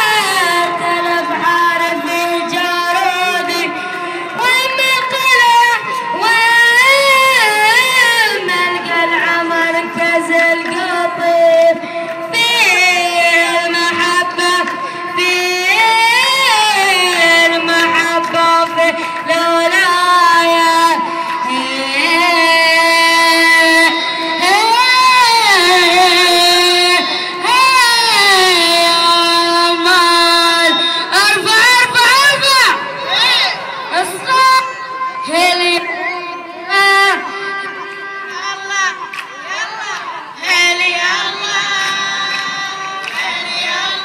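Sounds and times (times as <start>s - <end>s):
crowd murmur: 0.0s - 44.0s
person singing over sound system: 0.0s - 44.0s.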